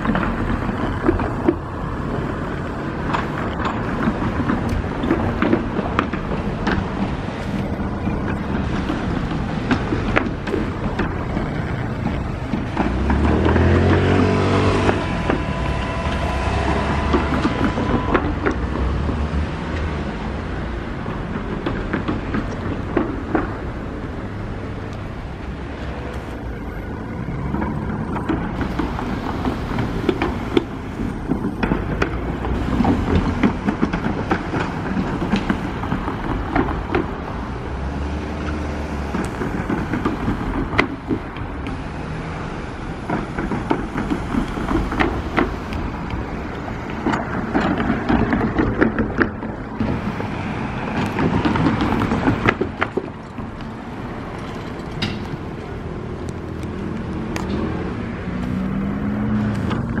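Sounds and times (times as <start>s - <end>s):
train wheels clattering: 0.0s - 20.0s, 27.3s - 56.6s
train rumble: 0.0s - 60.0s.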